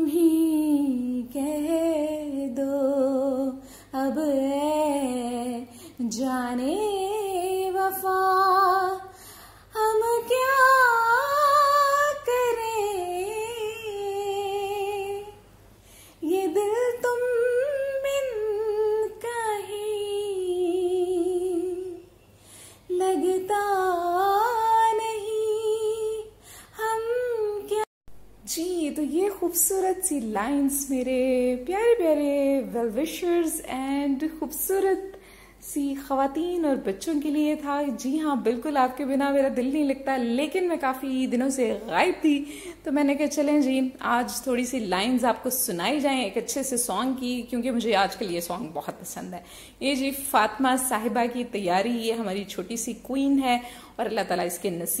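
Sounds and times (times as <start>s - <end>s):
woman singing unaccompanied: 0.0s - 15.4s, 16.2s - 22.1s, 22.9s - 55.0s.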